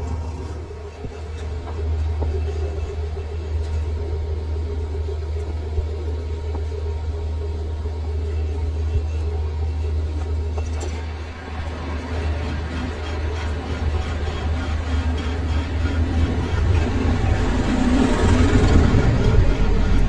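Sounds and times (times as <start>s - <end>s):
lathe motor humming: 0.0s - 20.0s.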